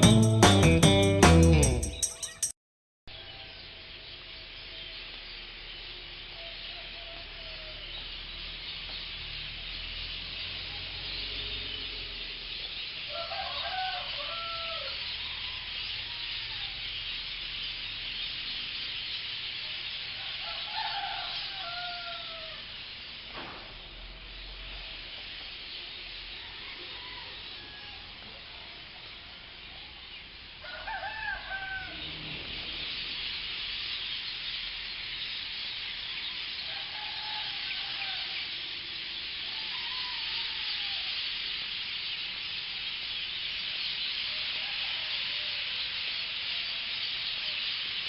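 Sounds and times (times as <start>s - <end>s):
flock of birds chattering: 3.6s - 48.0s.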